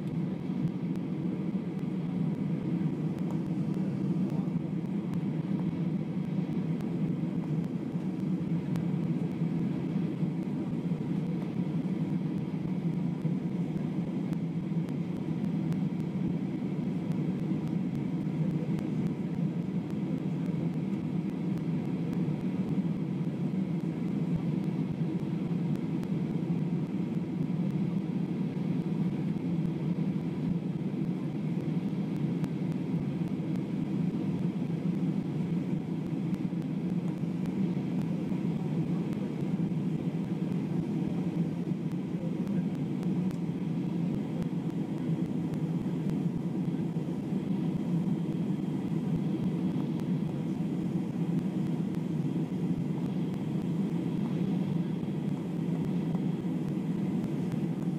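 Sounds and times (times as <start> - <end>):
aircraft cabin engine drone: 0.0 - 57.9
faint high whine: 0.0 - 57.9.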